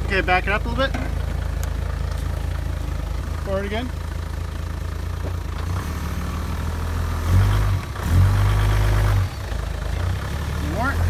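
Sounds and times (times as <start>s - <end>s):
truck engine idling and revving: 0.0s - 11.0s.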